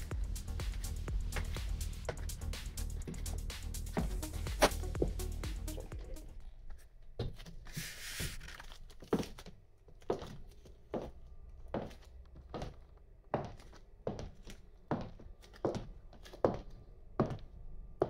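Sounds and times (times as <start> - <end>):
heels clicking on wooden floor: 0.5 - 6.2, 7.2 - 17.4.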